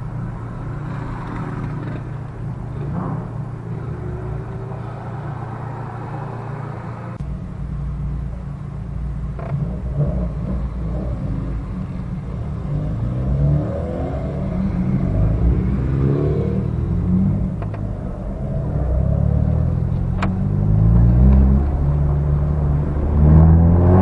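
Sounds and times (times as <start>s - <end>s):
car engine from inside cabin: 0.0s - 24.0s
road noise: 0.0s - 24.0s.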